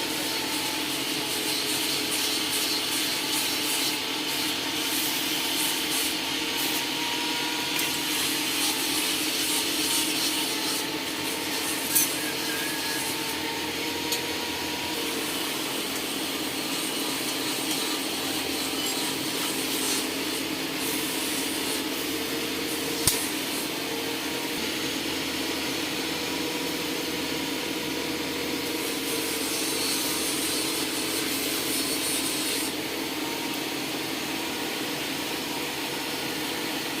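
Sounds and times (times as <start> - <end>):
workshop machine rasping and whirring: 0.0 - 37.0.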